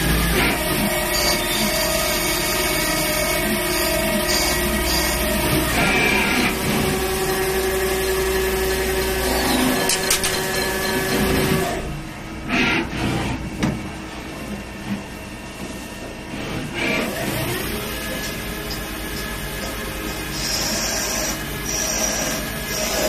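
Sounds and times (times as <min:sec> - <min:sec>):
machine humming and whining: 0:00.0 - 0:23.0.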